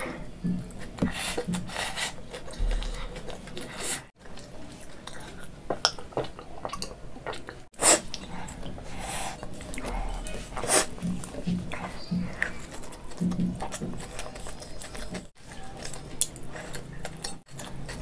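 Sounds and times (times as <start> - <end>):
chewing noodles: 0.1 - 18.0.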